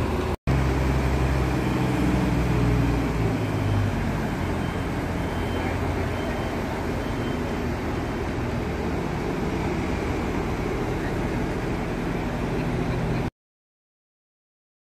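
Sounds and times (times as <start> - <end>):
diesel engine droning: 0.0 - 13.3.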